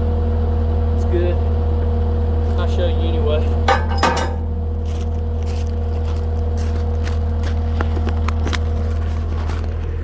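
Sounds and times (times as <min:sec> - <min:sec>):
backhoe engine idling: 0:00.0 - 0:10.0.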